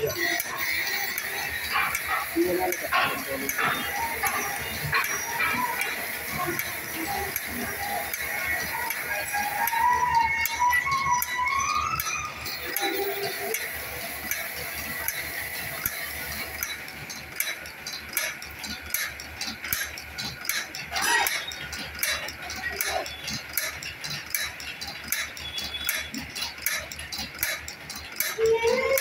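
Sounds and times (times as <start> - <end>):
machine clicking rhythmically: 0.0 - 29.0.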